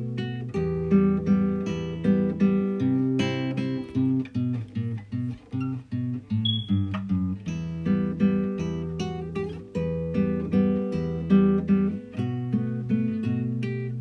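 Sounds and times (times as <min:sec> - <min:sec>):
plucked acoustic guitar: 0:00.0 - 0:14.0.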